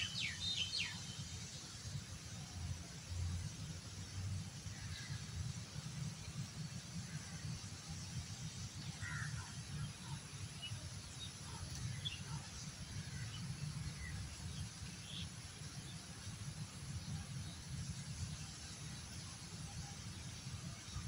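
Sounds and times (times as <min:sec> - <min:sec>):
faint hiss: 0:00.0 - 0:21.0.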